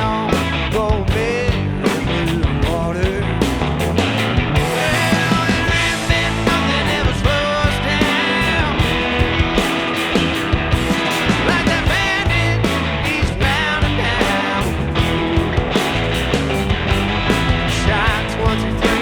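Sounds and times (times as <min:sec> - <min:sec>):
bass guitar: 0:00.0 - 0:19.0
electric guitar lead lines: 0:00.0 - 0:19.0
steady drum beat: 0:00.0 - 0:19.0.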